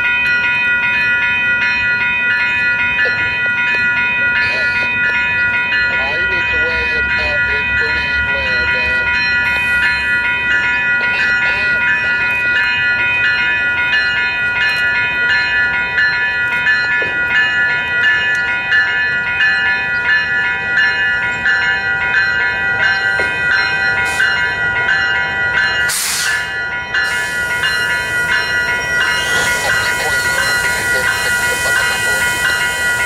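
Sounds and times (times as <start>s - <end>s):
diesel locomotive passing: 0.0s - 33.0s
railroad warning bell ringing: 0.0s - 33.0s.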